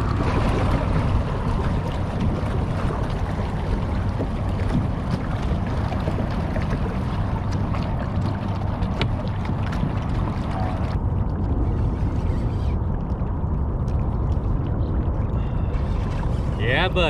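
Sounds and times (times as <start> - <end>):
water washing against boat hull: 0.0 - 17.0
wind noise on microphone: 0.0 - 17.0.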